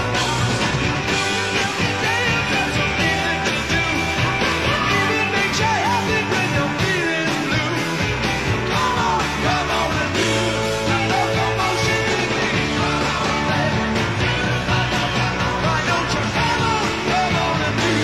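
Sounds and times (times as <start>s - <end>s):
drums: 0.0s - 18.0s
electric guitar: 0.0s - 18.0s
pitch-bending lead guitar lines: 0.0s - 18.0s
steady bass line: 0.0s - 18.0s.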